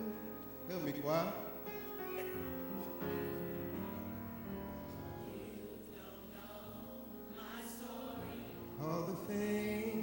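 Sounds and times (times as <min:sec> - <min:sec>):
church band accompaniment: 0:00.0 - 0:10.0
gospel choir singing: 0:02.0 - 0:10.0.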